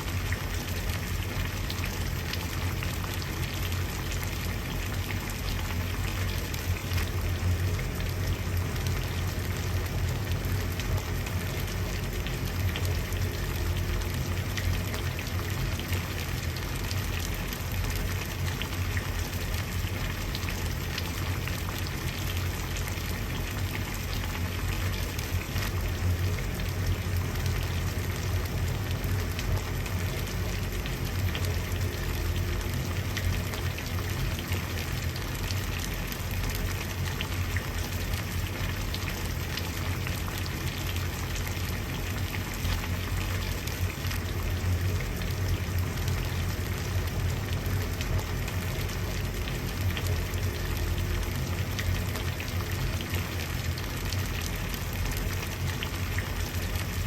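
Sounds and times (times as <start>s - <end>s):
water boiling and bubbling: 0.0s - 57.0s.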